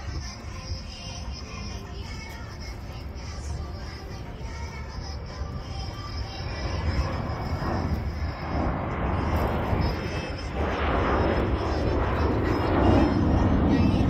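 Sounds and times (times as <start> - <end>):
jet engines rushing and rumbling: 0.0 - 14.0.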